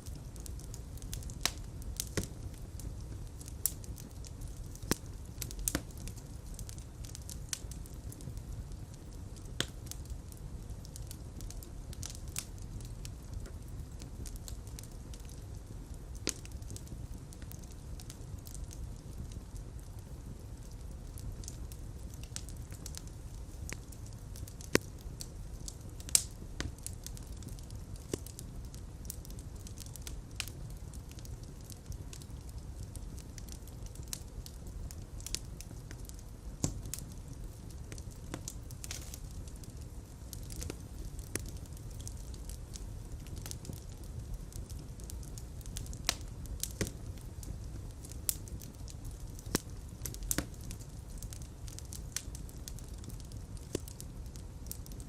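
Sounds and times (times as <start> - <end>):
pops and snaps of fire: 0.0 - 8.9, 9.5 - 19.5, 20.6 - 55.0
fire crackling: 0.0 - 55.0.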